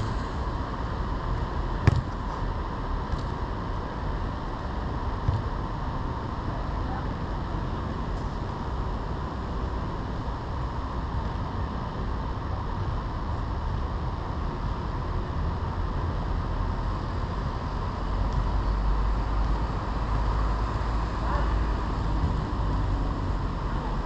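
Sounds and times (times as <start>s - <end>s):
low rumbling noise: 0.0s - 24.0s.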